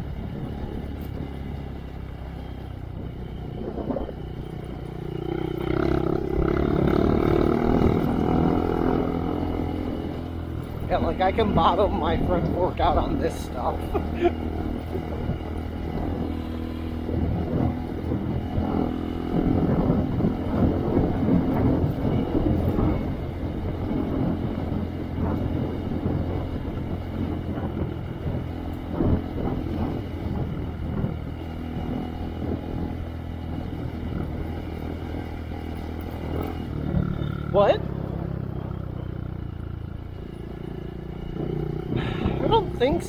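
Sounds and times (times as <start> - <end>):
knocks and rattles of bike: 0.0 - 43.0
motorcycle engine running: 0.0 - 43.0.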